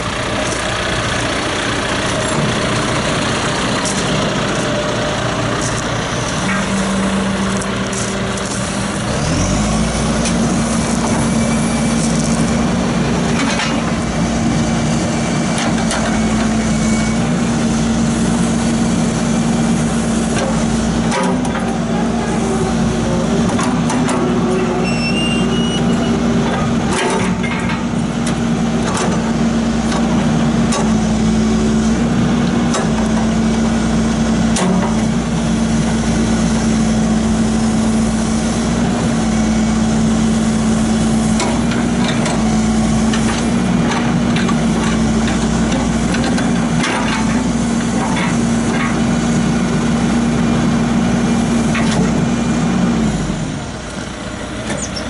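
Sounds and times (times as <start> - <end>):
backhoe diesel engine humming: 0.0 - 55.0.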